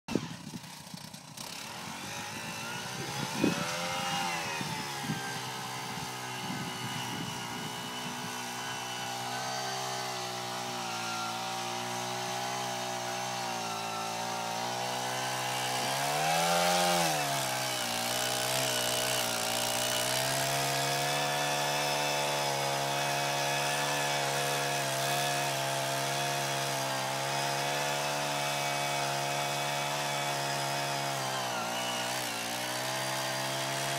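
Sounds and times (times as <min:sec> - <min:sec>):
auger engine running: 0:00.1 - 0:33.9.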